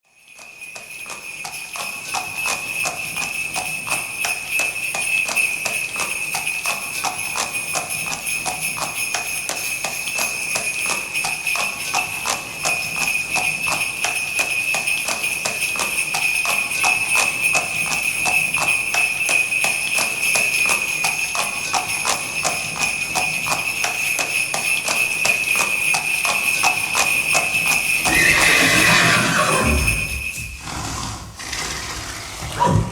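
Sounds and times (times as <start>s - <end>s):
sleigh bells jingling: 0.1s - 32.8s
horse hooves trotting: 0.2s - 32.9s.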